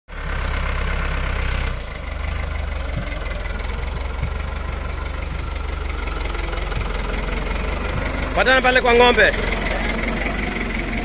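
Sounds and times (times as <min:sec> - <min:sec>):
tractor diesel engine idling: 0:00.1 - 0:11.0.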